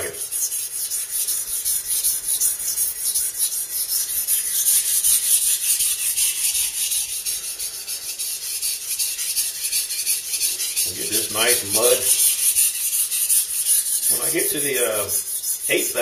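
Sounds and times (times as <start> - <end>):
knife scraping on whetstone: 0.0 - 16.0.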